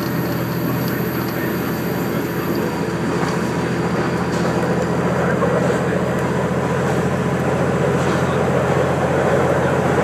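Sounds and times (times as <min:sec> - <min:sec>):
diesel engine hum: 0:00.0 - 0:10.0
train wheels rumbling on rails: 0:00.0 - 0:10.0.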